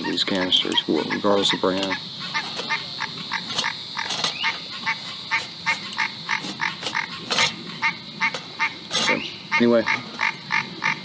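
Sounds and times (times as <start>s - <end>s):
frogs croaking: 0.0s - 11.0s
high insect drone: 0.0s - 11.0s.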